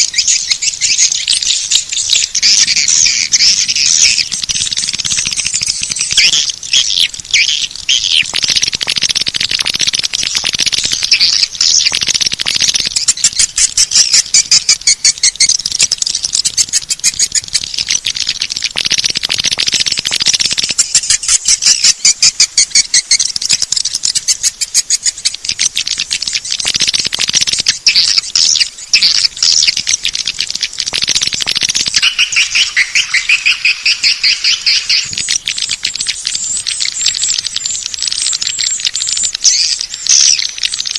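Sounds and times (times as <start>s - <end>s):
recorded swiftlet twittering: 0.0s - 40.9s.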